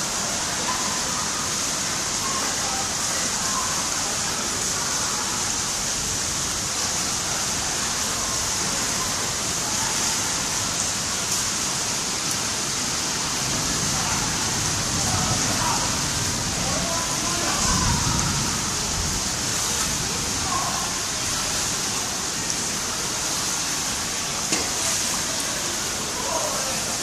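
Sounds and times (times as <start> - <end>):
torrential rain pouring: 0.0 - 27.0.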